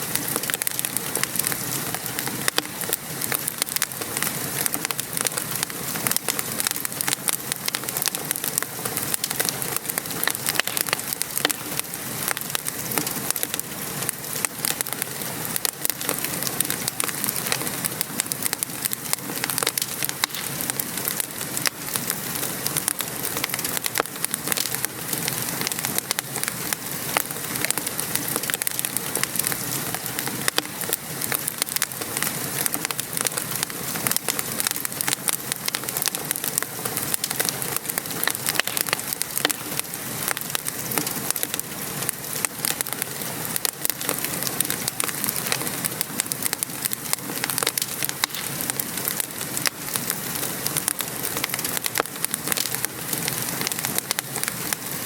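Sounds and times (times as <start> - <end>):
rain falling: 0.0 - 55.0
wood fire crackling: 0.0 - 55.0.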